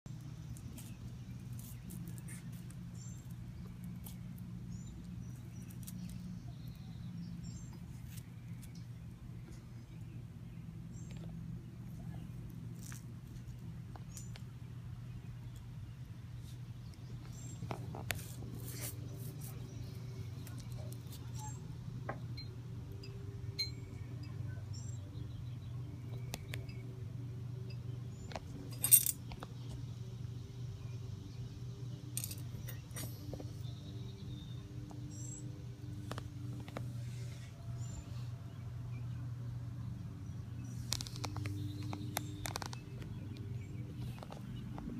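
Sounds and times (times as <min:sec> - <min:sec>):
steady low hum: 0:00.1 - 0:44.9.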